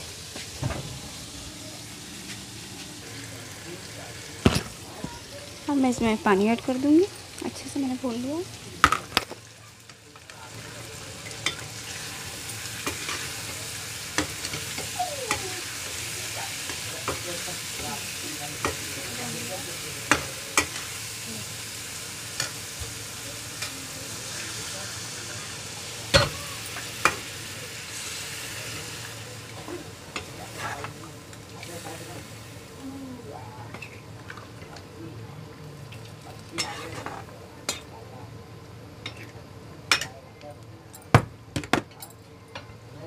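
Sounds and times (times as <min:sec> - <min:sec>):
food sizzling in a pot: 0:00.0 - 0:40.2.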